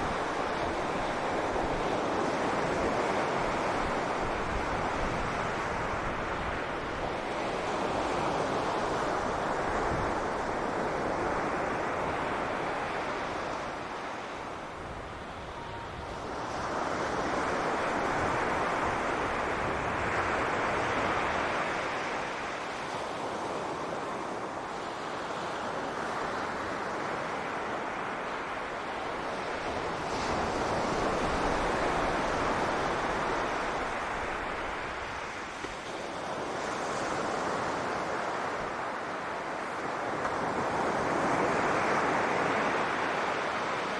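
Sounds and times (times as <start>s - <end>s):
ocean waves breaking on beach: 0.0s - 43.9s
wind on microphone: 0.0s - 43.9s.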